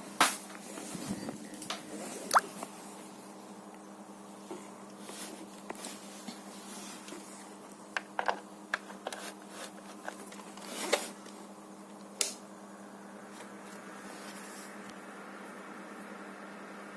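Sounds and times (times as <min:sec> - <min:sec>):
dehumidifier humming: 0:00.0 - 0:16.9.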